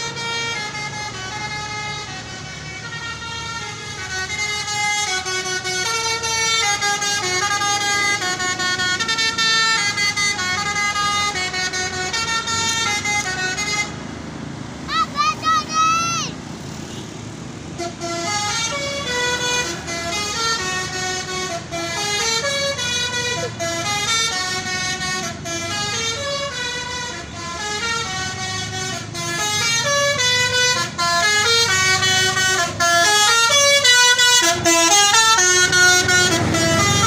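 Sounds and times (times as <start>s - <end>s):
air-horn tune: 0.0s - 13.9s, 17.8s - 37.0s.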